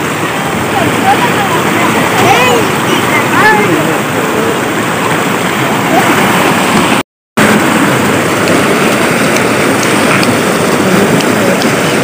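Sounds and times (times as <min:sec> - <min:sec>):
children splashing: 0:00.0 - 0:12.0.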